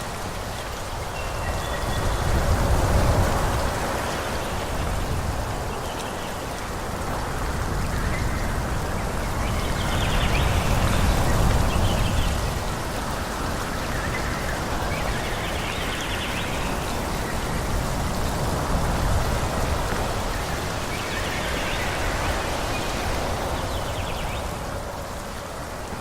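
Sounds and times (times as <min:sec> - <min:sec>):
wind through trees: 0:00.0 - 0:26.0.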